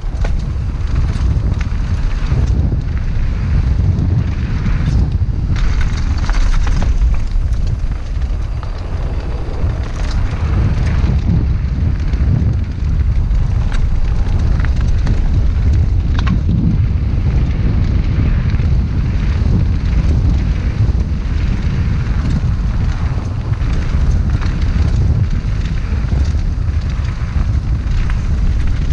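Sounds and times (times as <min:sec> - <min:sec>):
bike clicks and rattles: 0:00.0 - 0:28.9
tyres rolling over gravel: 0:00.0 - 0:28.9
wind buffeting microphone: 0:00.0 - 0:28.9.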